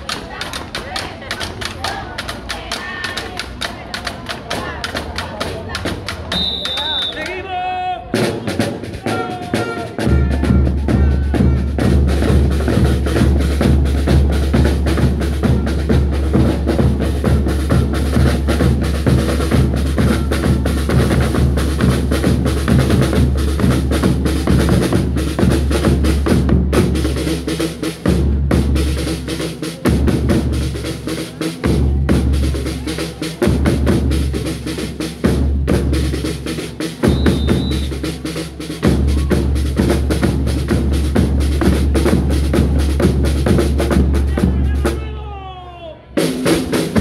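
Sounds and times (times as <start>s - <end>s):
snare drum strokes and rolls: 0.0s - 45.2s, 46.2s - 47.0s
bass drum: 8.1s - 45.0s, 46.2s - 47.0s.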